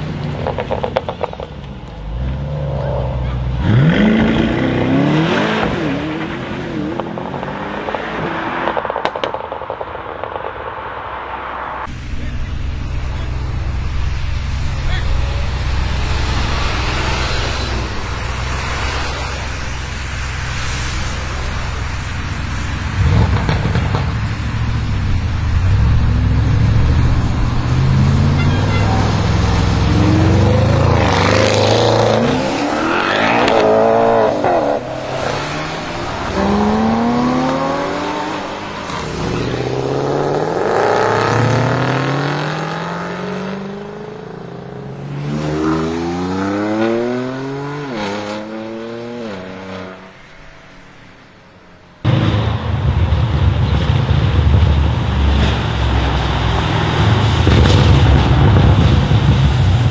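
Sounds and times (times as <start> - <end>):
car engine revving: 0.4 - 9.4, 11.8 - 49.9, 52.0 - 59.9.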